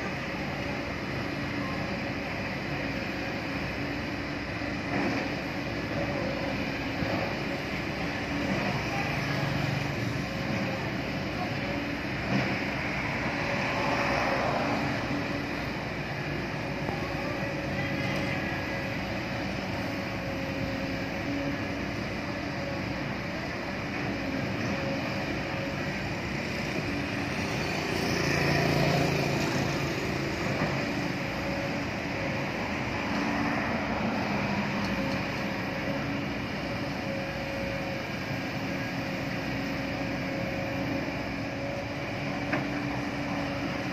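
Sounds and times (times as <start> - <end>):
excavator diesel engine under load: 0.0 - 43.9.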